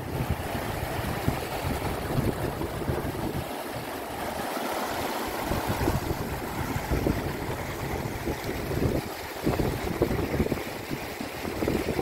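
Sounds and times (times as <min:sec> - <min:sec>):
river rushing over stones: 0:00.0 - 0:12.0
wind buffeting microphone: 0:00.0 - 0:12.0.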